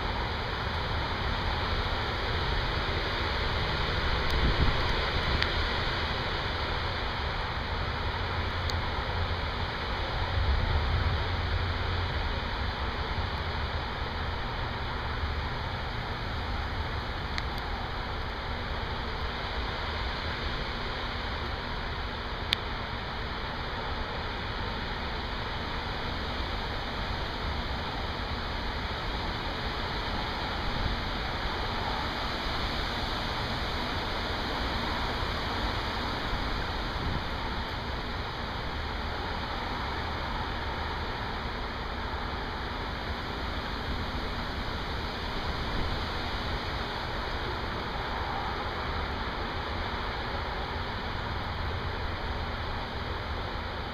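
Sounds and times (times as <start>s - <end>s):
heavy rain hissing: 0.0s - 53.9s.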